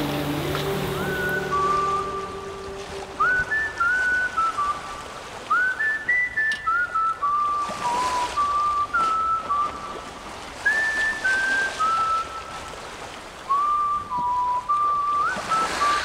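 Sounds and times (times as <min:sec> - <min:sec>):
whistled melody: 0:00.0 - 0:12.8, 0:13.5 - 0:16.0.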